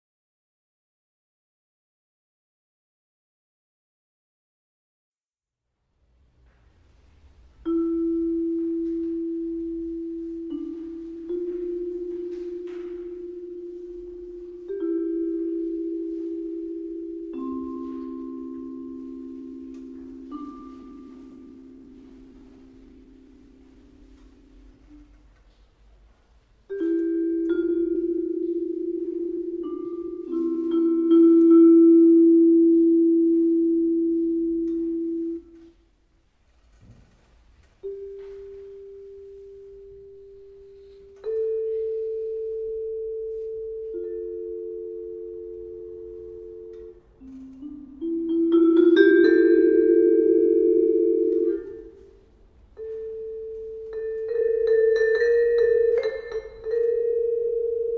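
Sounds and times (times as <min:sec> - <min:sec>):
vibraphone playing chords: 0:07.1 - 0:25.6, 0:26.6 - 0:35.7, 0:37.8 - 0:57.9.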